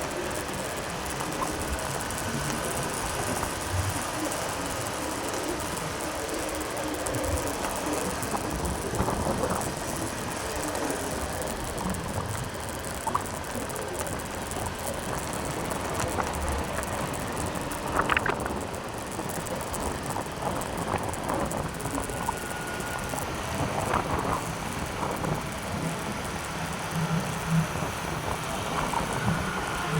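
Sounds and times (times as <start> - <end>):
motorbike road and wind noise: 0.0 - 29.9
faint clicks and chirps: 0.1 - 27.6.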